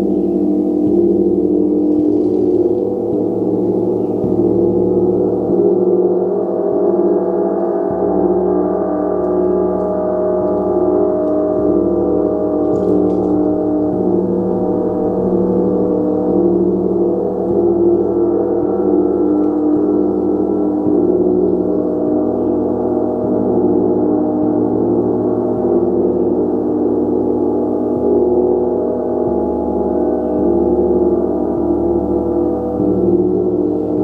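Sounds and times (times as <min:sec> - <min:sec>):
gong ringing: 0:00.0 - 0:34.0.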